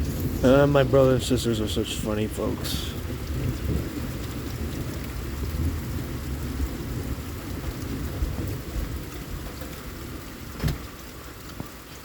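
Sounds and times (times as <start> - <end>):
rolling thunder: 0.0 - 11.1
steady rain falling: 0.0 - 12.0.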